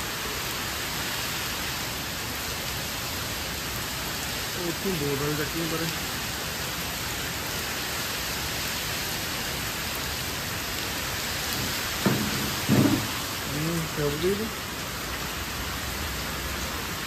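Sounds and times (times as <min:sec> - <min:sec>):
heavy rain on foliage and paving: 0:00.0 - 0:17.0.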